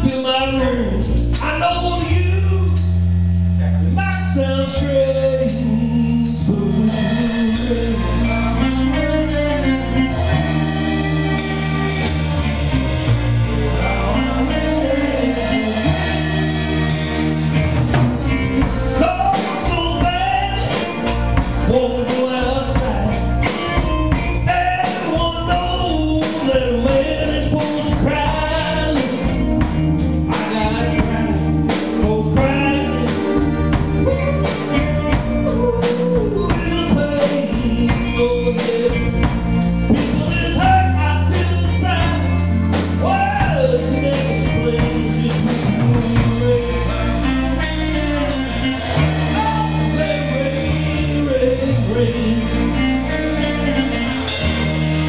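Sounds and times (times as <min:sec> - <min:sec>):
bass notes: 0:00.0 - 0:55.0
drums: 0:00.0 - 0:55.0
guitar: 0:00.0 - 0:55.0
man singing soul ballad: 0:00.0 - 0:55.0.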